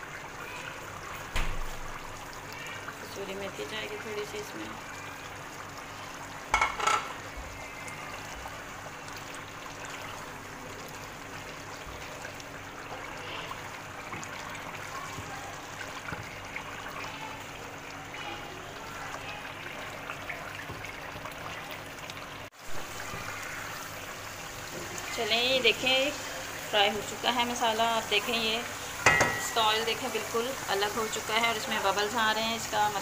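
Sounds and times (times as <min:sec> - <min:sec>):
curry bubbling and sizzling: 0:00.0 - 0:33.0.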